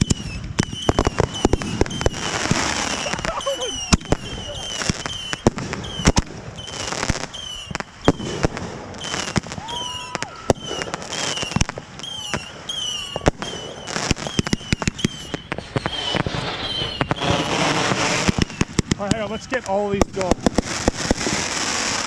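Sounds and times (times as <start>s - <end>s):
fireworks crackling sizzle: 0.0s - 22.0s
fireworks shells bursting: 0.0s - 22.0s.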